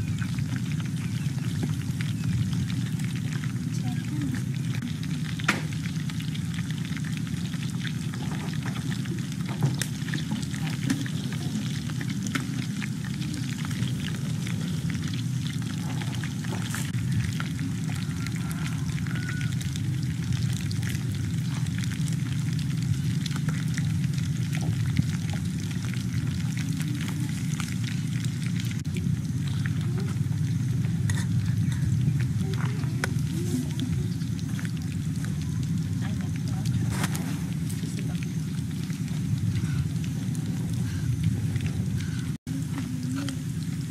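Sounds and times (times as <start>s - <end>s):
frying in oil with crackling pops: 0.0s - 43.9s.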